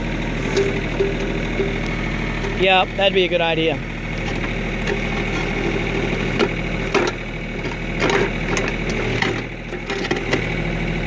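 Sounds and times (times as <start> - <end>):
steel bucket scraping dirt: 0.0 - 10.6
tractor diesel engine running: 0.0 - 11.0.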